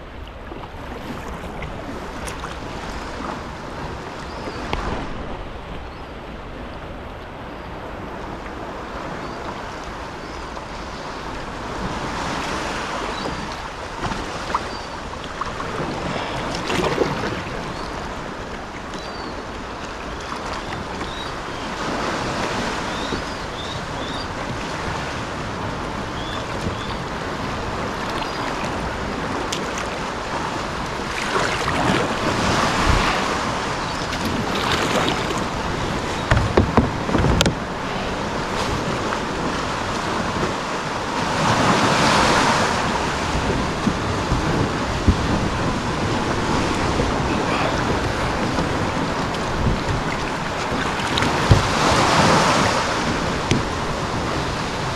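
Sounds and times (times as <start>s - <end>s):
sea waves washing and splashing: 0.0s - 54.9s
wind on microphone: 0.0s - 54.9s.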